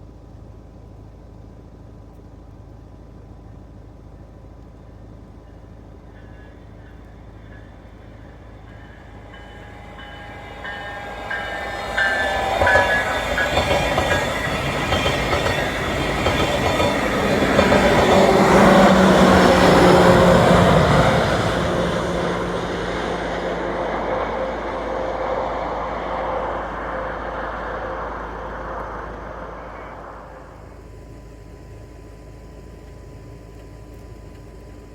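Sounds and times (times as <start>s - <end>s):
passenger train running by: 0.2s - 32.8s.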